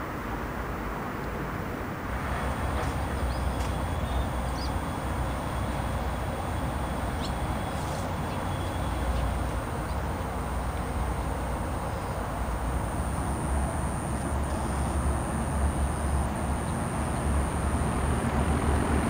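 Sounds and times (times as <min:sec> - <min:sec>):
thin high whine: 0:02.4 - 0:19.0.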